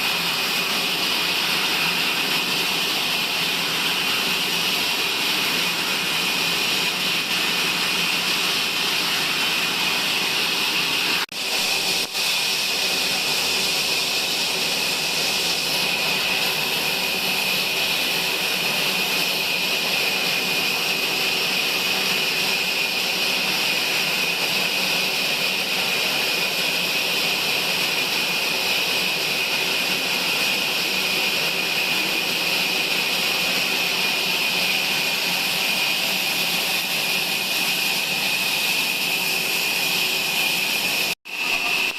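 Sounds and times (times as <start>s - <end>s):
sawmill saw running: 0.0s - 41.9s.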